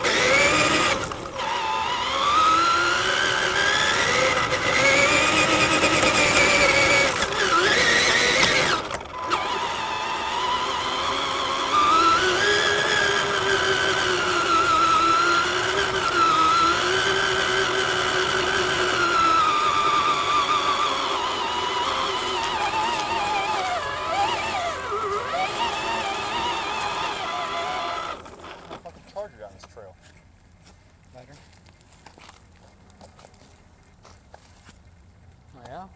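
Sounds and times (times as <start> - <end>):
toy truck motor whining: 0.0 - 29.2.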